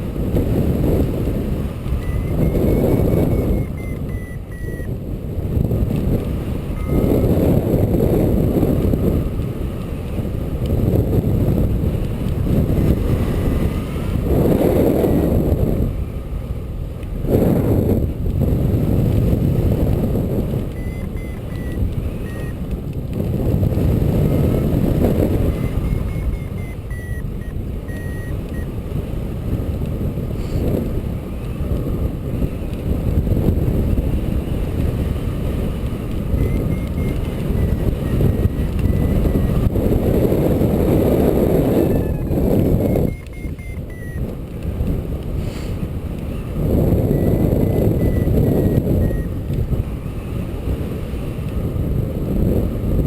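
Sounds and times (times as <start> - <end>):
vehicle noise: 0.0 - 53.0.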